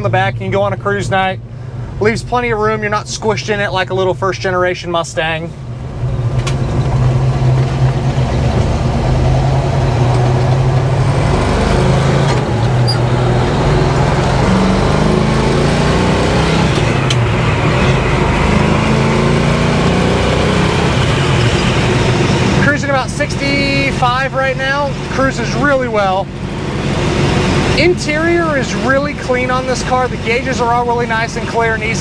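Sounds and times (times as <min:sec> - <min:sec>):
car engine running: 0:00.0 - 0:32.0
road noise: 0:00.0 - 0:32.0.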